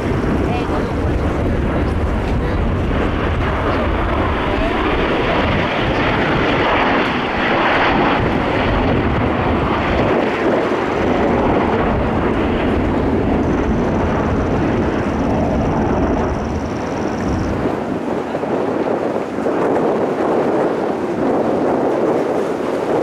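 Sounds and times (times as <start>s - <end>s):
jets flying over: 0.0s - 23.0s.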